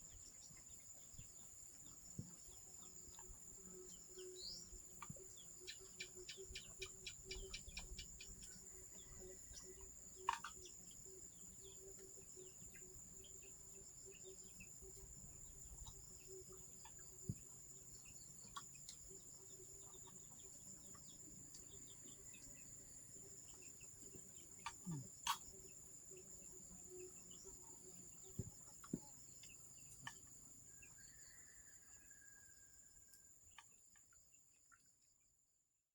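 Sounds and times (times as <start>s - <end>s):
high-pitched insect chorus: 0.0s - 34.6s.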